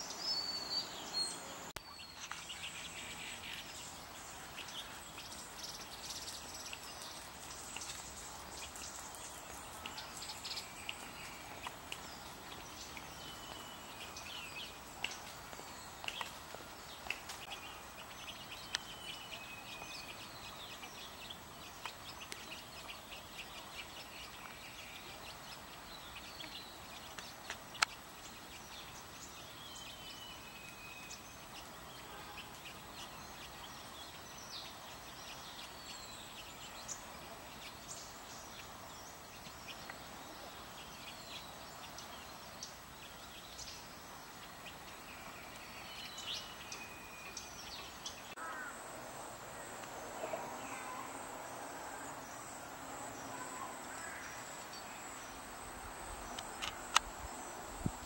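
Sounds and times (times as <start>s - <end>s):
small birds chirping: 0.0s - 48.7s
background hiss: 0.0s - 58.0s.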